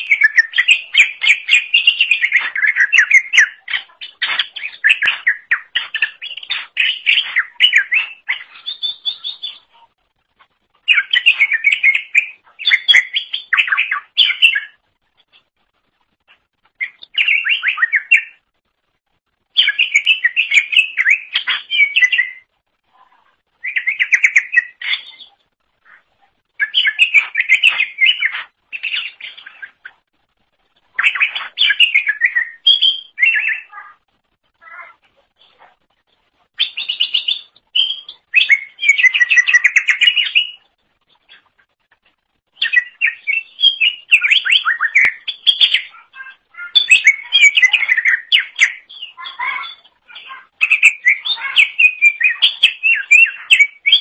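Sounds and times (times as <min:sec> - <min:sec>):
bird twittering song: 0:00.0 - 0:10.0, 0:10.6 - 0:15.4, 0:16.2 - 0:18.5, 0:19.4 - 0:22.6, 0:23.5 - 0:30.1, 0:30.8 - 0:34.0, 0:36.6 - 0:41.8, 0:42.5 - 0:54.0.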